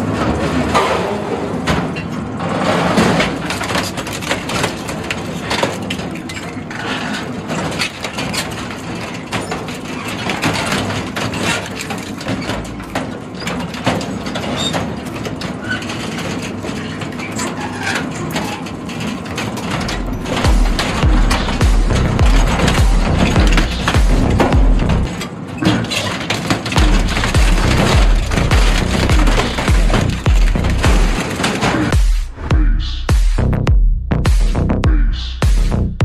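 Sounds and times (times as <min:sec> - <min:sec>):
metal crunching and tearing: 0:00.0 - 0:32.4
shredder machine drone: 0:00.0 - 0:32.5.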